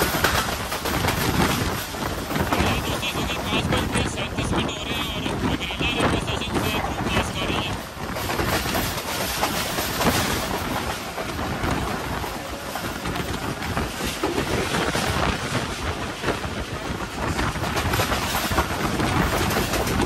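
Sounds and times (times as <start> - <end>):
rushing noise: 0.0 - 20.0
train wheels rattling on rails: 0.0 - 20.0.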